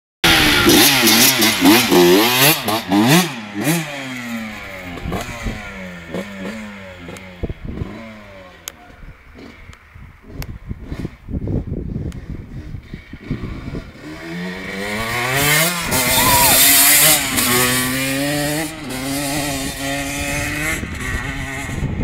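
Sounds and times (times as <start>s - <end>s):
motocross bike revving: 0.2s - 11.6s, 12.2s - 22.0s.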